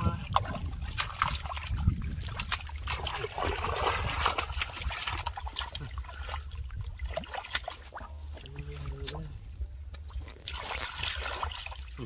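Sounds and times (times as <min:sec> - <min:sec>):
hands splashing in muddy water: 0:00.0 - 0:09.2, 0:10.0 - 0:12.0.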